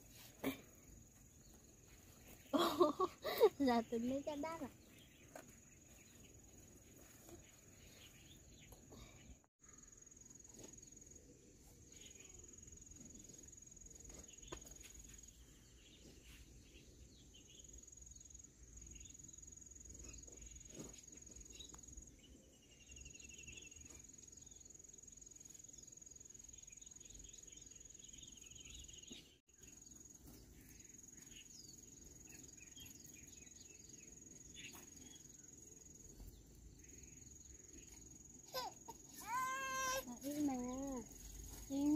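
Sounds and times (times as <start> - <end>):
faint chirps: 0.0 - 41.9.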